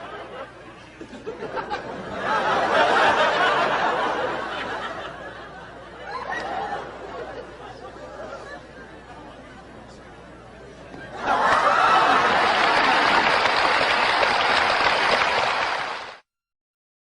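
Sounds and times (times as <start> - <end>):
audience laughing: 0.0 - 9.7, 10.9 - 15.2.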